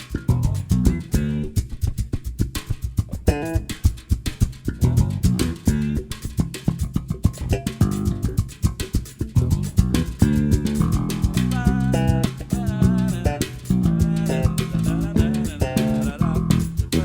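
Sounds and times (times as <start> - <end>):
bass guitar: 0.0 - 1.9, 3.0 - 17.0
percussion strokes: 0.0 - 17.0.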